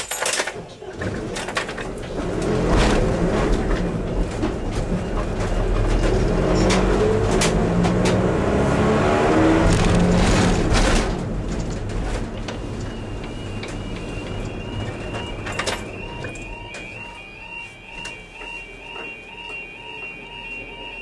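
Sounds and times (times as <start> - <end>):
diesel train engine accelerating: 1.9 - 21.0.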